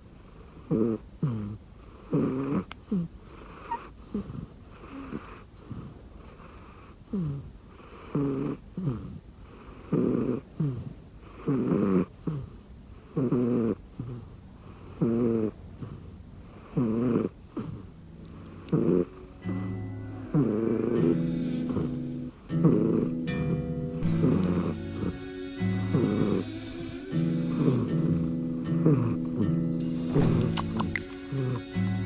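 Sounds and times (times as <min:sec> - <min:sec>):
cat snoring: 0:00.1 - 0:32.0.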